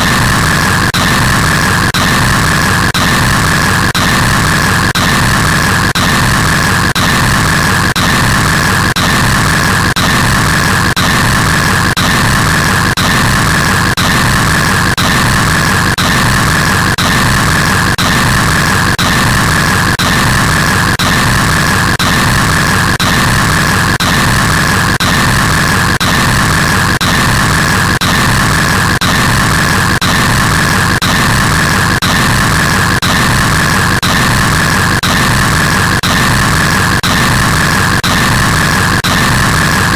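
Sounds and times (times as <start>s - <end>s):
loud harsh static: 0.0s - 39.9s.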